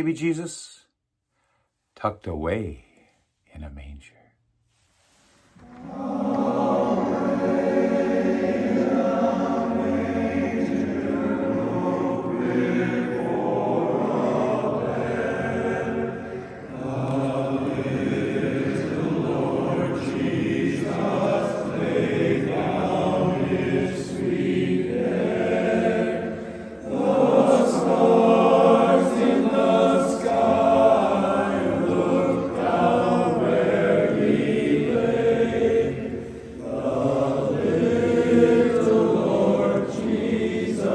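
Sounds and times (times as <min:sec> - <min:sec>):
barbershop chorus singing: 0:05.6 - 0:40.9.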